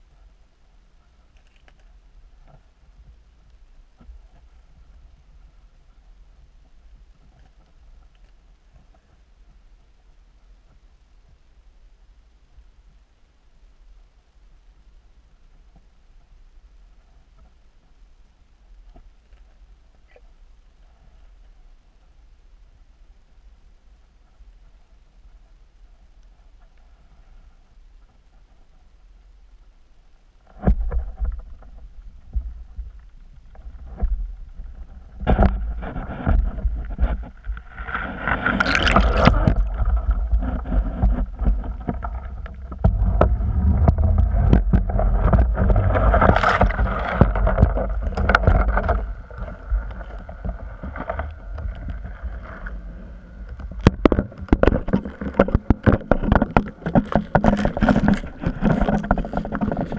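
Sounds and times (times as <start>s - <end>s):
muffled underwater rushing water: 0.0s - 59.9s.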